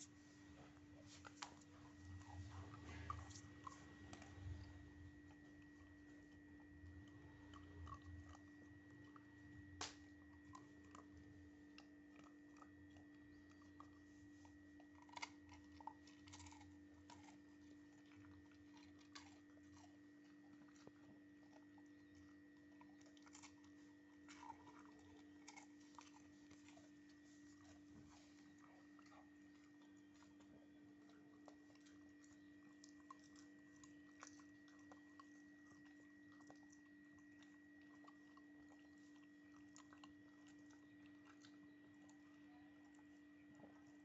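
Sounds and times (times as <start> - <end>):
dog chewing and crunching: 0.0 - 44.0
faint steady hum: 0.0 - 44.0.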